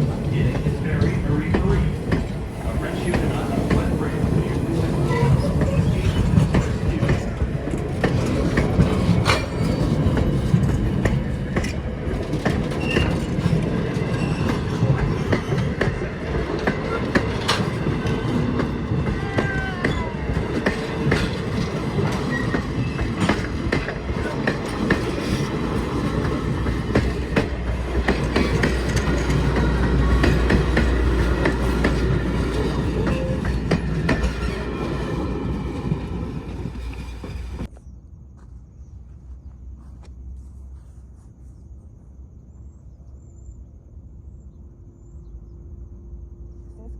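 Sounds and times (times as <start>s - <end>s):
wheels clacking over rail joints: 0.0s - 37.7s
train rumbling on track: 0.0s - 37.8s, 39.3s - 46.9s.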